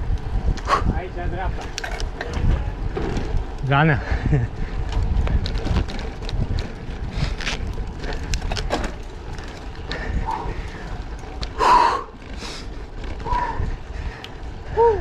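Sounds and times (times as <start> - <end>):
bicycle tyre noise: 0.0 - 15.0
bike clicks and rattles: 0.0 - 15.0
wind rumbling on microphone: 0.0 - 15.0.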